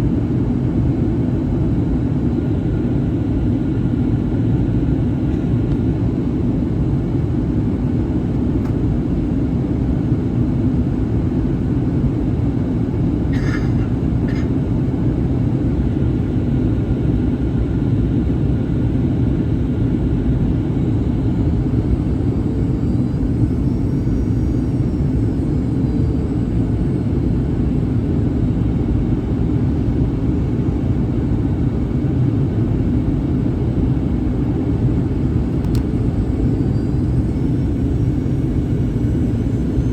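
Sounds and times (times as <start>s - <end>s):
airplane cabin rumble: 0.0s - 16.5s, 17.2s - 39.9s.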